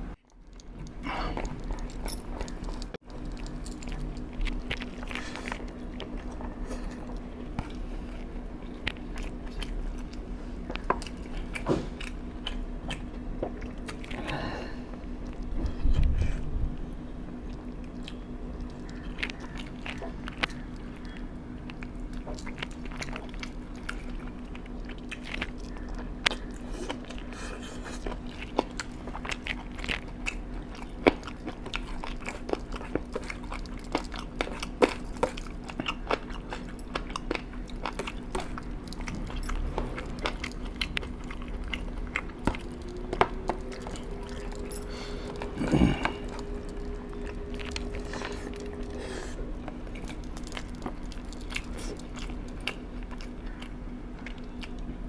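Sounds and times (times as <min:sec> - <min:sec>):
person chewing crunchy food: 0:00.0 - 0:55.0
steady low hum: 0:00.0 - 0:55.0.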